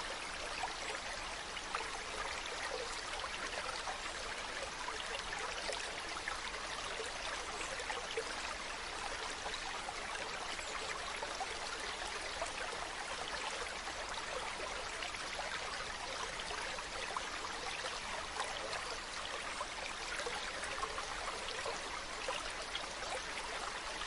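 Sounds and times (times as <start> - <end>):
stream running over rocks: 0.0 - 24.0.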